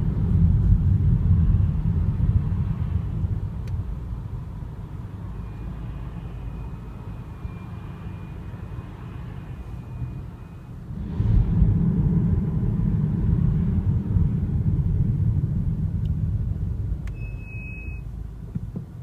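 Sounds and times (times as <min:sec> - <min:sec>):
low rumble of moving car: 0:00.0 - 0:19.0.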